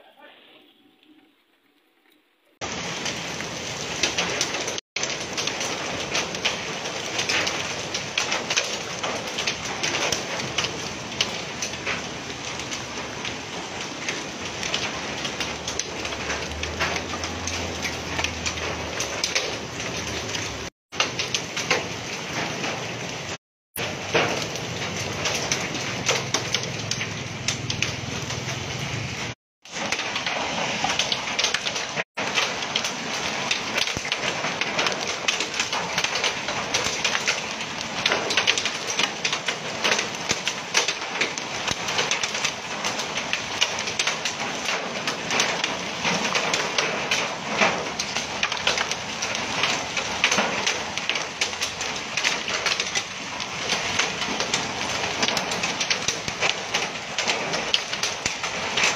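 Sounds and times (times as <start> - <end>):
rain and hail on pavement: 2.6 - 58.9.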